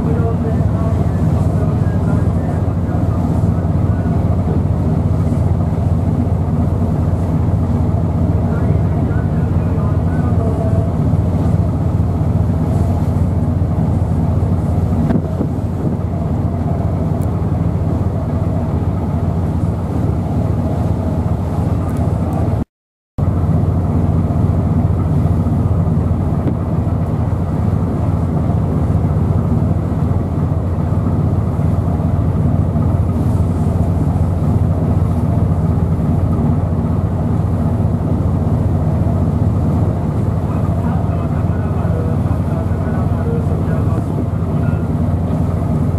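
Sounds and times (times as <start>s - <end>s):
rough sea: 0.0s - 22.6s, 23.2s - 45.9s
strong wind: 0.0s - 22.6s, 23.2s - 45.9s
low engine drone: 0.0s - 45.9s.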